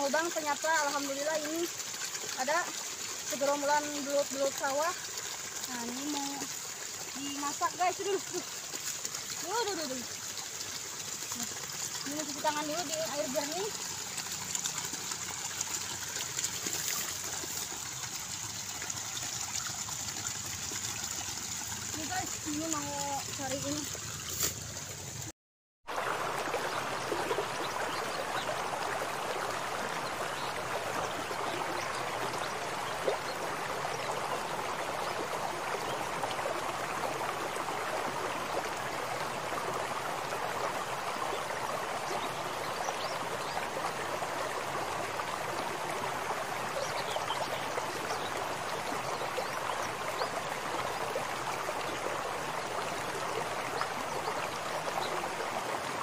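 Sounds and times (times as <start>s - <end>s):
water rushing in a ditch: 0.0s - 25.3s, 25.9s - 56.0s.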